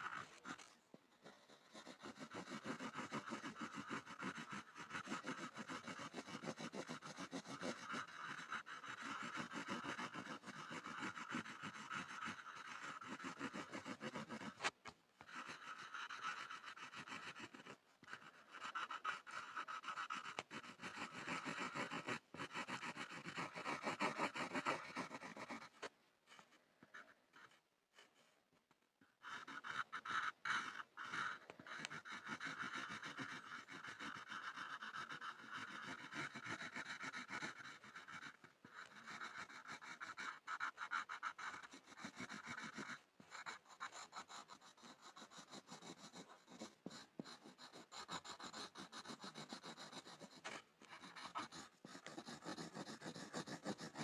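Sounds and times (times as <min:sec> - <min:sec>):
pencil scribbling on board: 0:00.0 - 0:28.4, 0:29.1 - 0:54.0.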